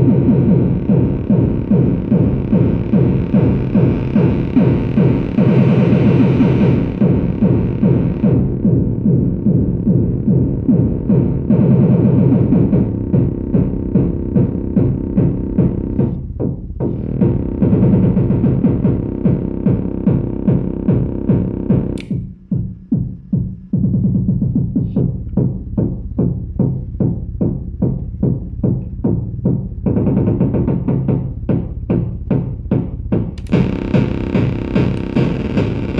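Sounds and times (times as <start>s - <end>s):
synthesizer drum pattern: 0.0s - 35.9s.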